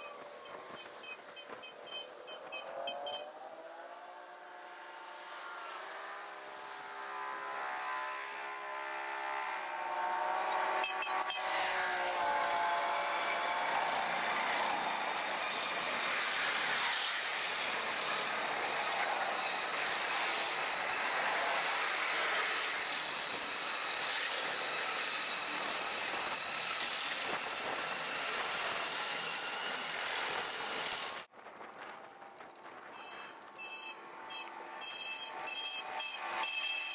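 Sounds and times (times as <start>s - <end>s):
diesel locomotives droning: 0.0s - 36.5s
train wheels on rails: 0.0s - 36.9s.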